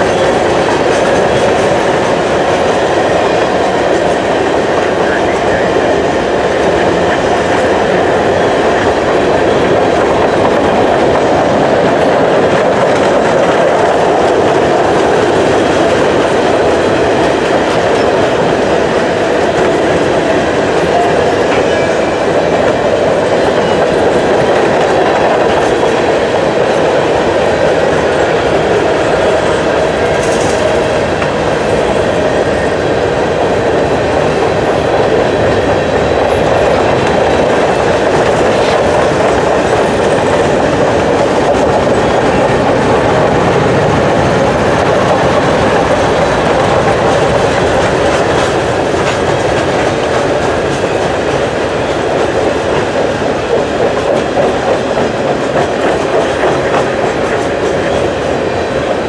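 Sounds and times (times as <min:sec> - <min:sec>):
freight train wheels rolling on rail: 0:00.0 - 0:59.0.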